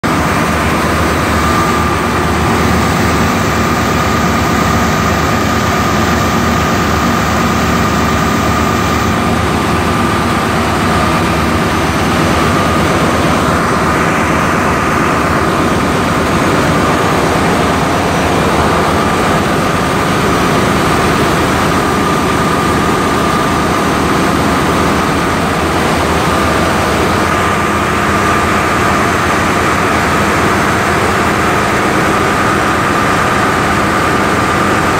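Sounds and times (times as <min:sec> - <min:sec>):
compressor humming with high whine: 0:00.0 - 0:34.9.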